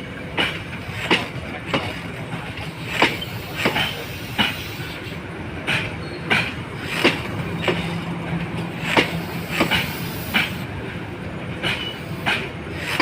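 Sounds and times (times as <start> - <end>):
steady train rumble: 0.0 - 13.0
train wheels clacking over rail joints: 0.0 - 13.0.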